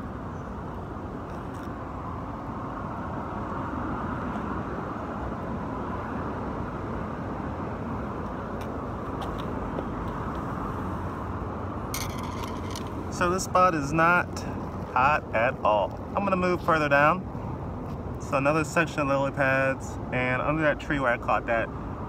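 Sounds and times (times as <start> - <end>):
highway traffic roar: 0.0 - 22.0.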